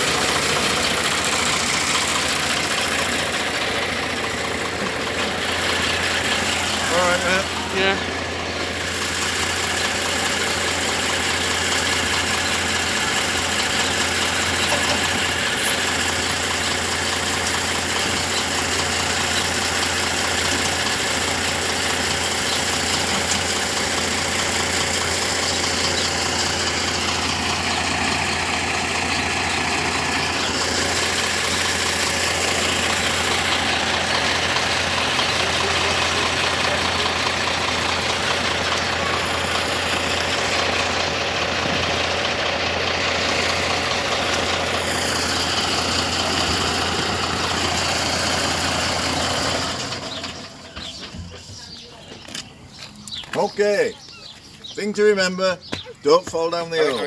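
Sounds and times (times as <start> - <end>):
diesel locomotive engine humming: 0.0 - 57.0.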